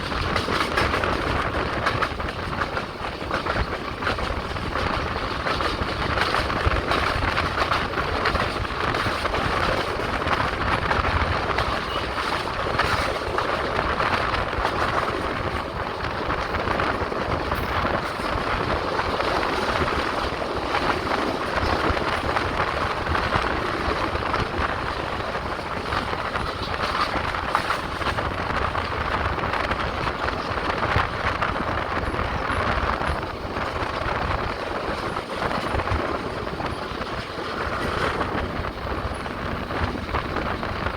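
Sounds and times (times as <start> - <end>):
passenger train rumbling: 0.0 - 40.9.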